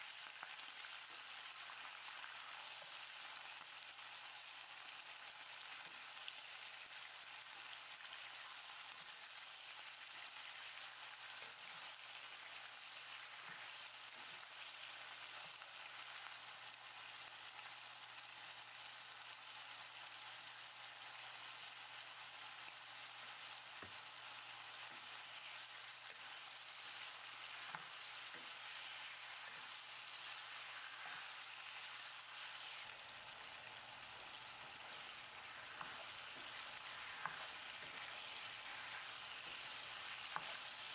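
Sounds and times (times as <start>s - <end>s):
meat sizzling in oil: 0.0s - 40.9s.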